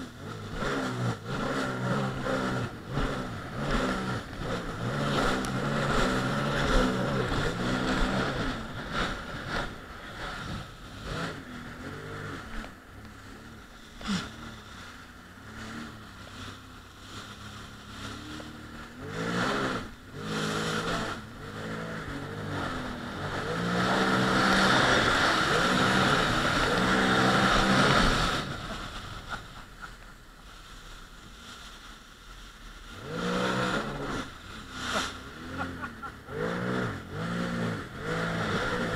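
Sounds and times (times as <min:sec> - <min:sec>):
jet ski engines revving: 0:00.0 - 0:38.9.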